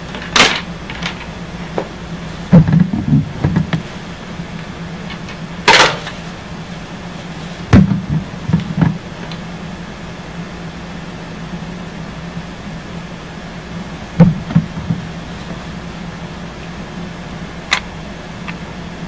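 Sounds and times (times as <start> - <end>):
steady background hiss: 0.0 - 19.0
steady low hum: 0.0 - 19.0.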